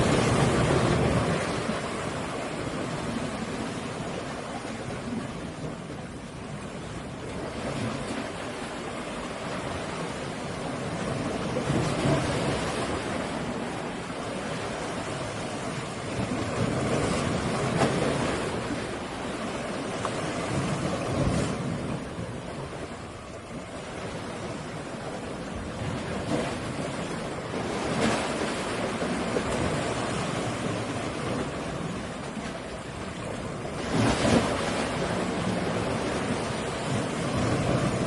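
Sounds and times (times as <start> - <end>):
waves washing onto shore: 0.0 - 38.0
wind: 0.0 - 38.0.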